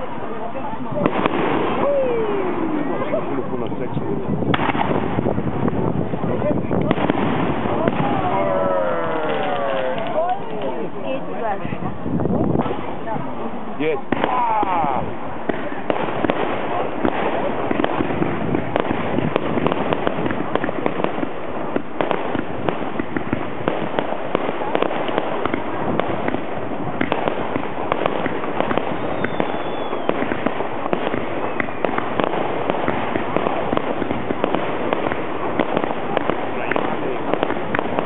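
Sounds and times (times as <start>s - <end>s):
fireworks popping and crackling: 0.0s - 38.0s.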